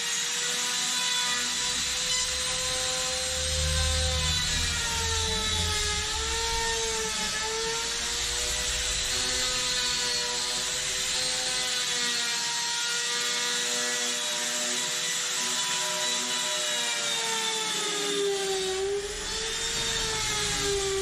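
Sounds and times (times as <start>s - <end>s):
router high-pitched whine: 0.0s - 21.0s.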